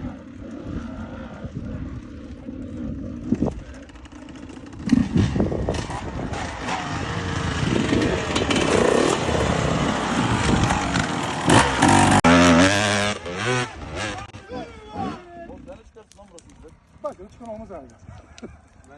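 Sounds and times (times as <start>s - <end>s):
motorcycle engine revving: 0.0s - 15.2s.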